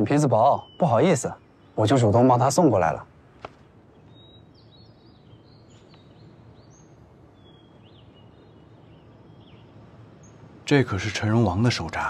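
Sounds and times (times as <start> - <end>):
faint bird chirps: 0.0 - 12.0
low steady outdoor hiss: 0.0 - 12.0.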